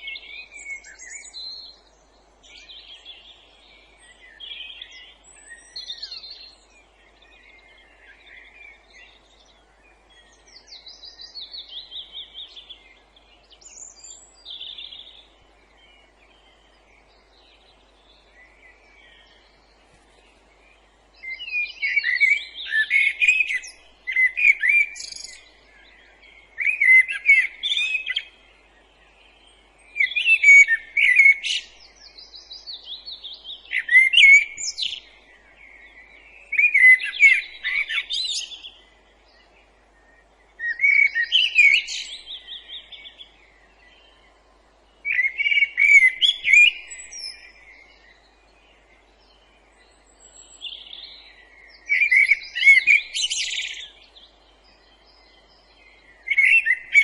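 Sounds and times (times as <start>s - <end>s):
loud bird song phrases: 0.0s - 57.0s
songbirds chirping and whistling: 0.0s - 57.0s.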